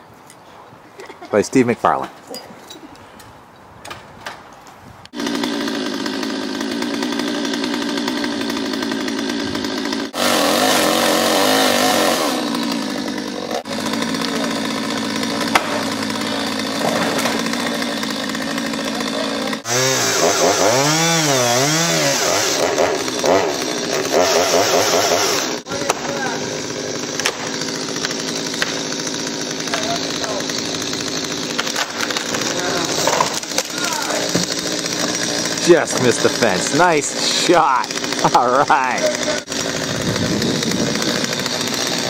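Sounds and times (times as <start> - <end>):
chainsaw revving: 5.1 - 42.0.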